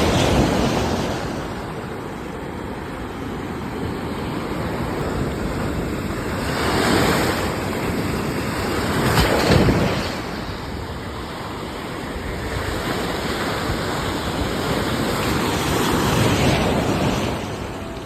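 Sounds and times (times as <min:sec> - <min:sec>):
ocean waves washing in: 0:00.0 - 0:18.0.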